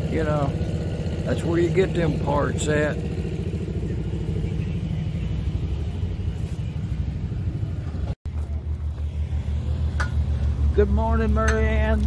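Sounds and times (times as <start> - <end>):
engine pulsing: 0.0 - 12.0
small engine rumbling: 0.0 - 12.0.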